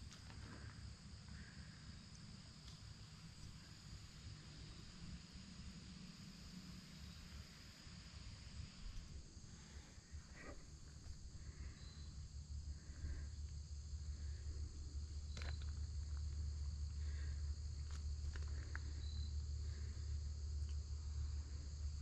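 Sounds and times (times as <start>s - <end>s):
crickets and insects chirring: 0.0s - 22.0s.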